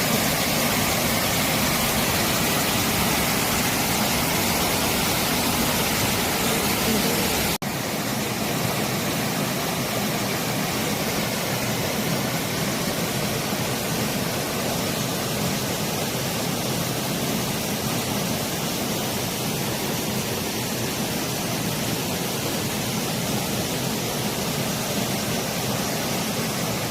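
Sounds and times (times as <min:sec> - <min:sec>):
stream rushing: 0:00.0 - 0:26.9.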